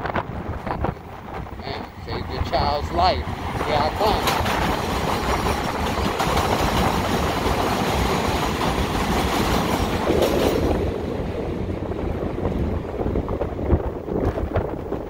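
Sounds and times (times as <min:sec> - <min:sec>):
road noise: 0:00.0 - 0:15.0
wind rushing: 0:00.0 - 0:15.0.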